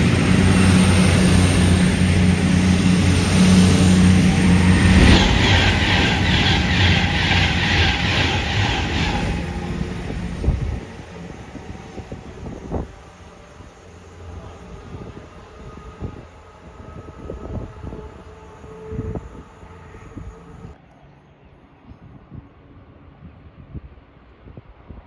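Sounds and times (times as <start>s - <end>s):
train wheels clacking over rail joints: 0.0s - 20.8s
train engine drone: 0.0s - 24.4s.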